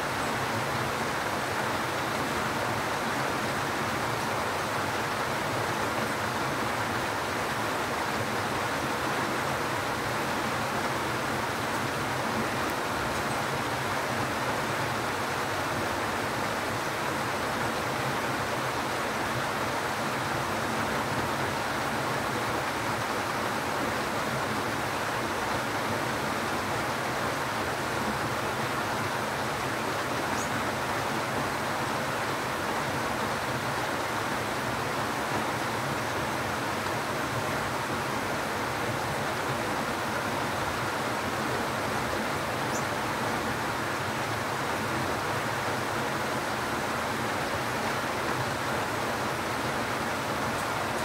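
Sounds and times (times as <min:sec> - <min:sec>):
rain on foliage: 0:00.0 - 0:51.0.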